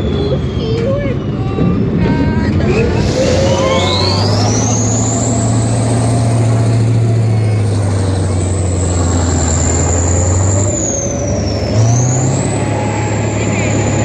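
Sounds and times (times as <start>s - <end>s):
high whine: 0.0s - 14.0s
tank engine drone: 0.0s - 14.0s.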